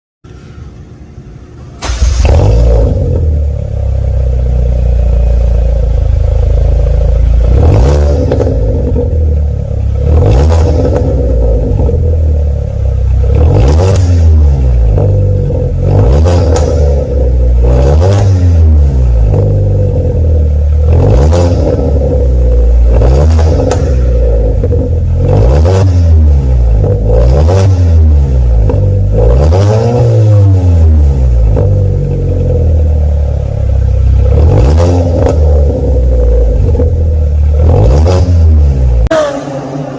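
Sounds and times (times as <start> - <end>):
car engine idling and revving: 0.2 - 39.9.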